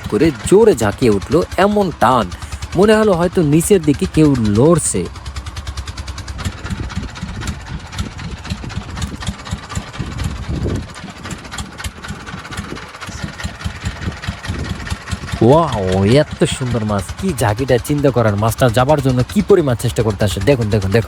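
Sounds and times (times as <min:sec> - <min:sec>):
boat engine idling with knocking: 0:00.0 - 0:21.0.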